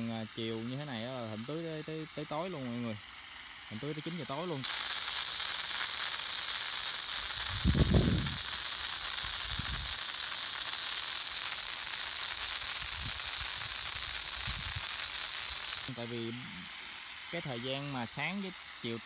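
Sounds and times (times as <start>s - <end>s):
water spraying from hose nozzle: 0.0s - 19.0s.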